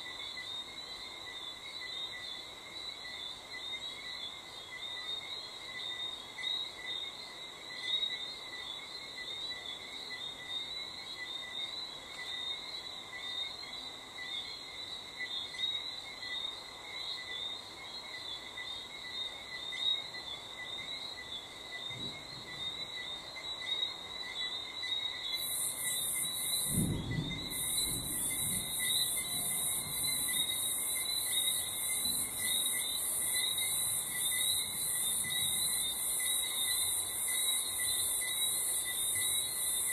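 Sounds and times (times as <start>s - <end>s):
crickets trilling: 0.0s - 39.9s
high-pitched pulsing insect call: 0.0s - 39.9s.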